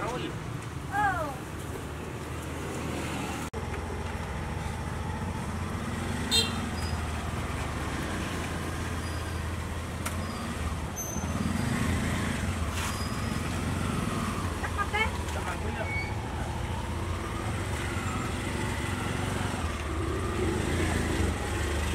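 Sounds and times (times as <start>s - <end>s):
street traffic rumble: 0.0s - 21.9s.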